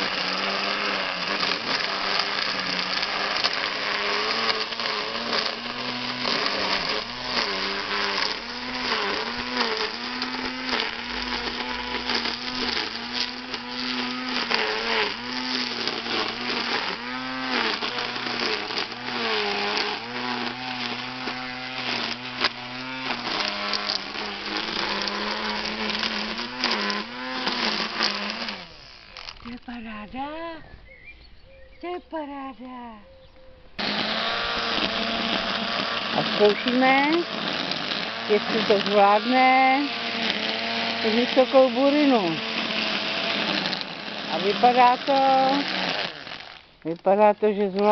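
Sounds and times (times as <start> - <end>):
string trimmer cutting grass: 0.0 - 30.6, 33.7 - 47.9.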